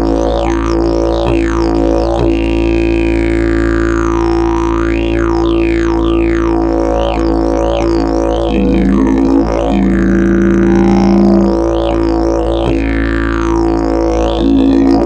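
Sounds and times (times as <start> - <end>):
didgeridoo drone: 0.0 - 15.0.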